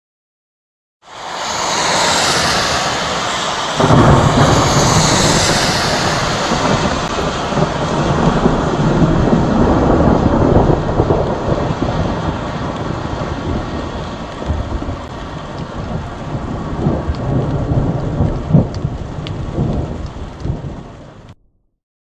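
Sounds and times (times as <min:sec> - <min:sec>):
rolling thunder: 0:01.2 - 0:21.4
thunder clap: 0:01.2 - 0:21.4.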